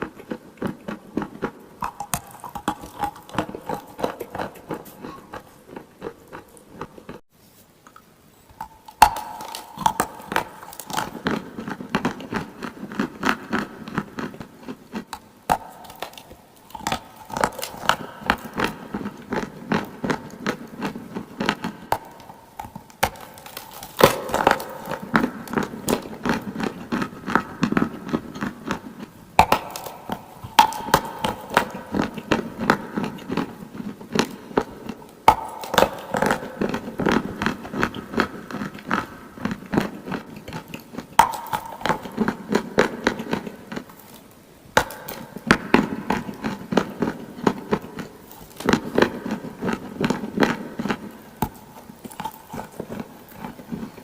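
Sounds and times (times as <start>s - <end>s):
chewing clay crunches: 0.0s - 7.2s, 7.9s - 54.0s.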